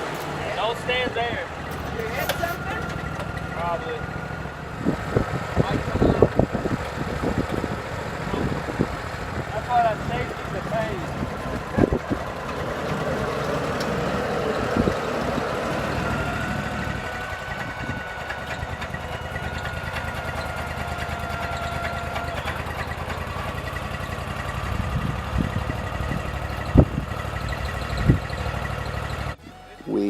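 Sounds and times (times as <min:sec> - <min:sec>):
sawmill engine running: 0:00.0 - 0:30.0.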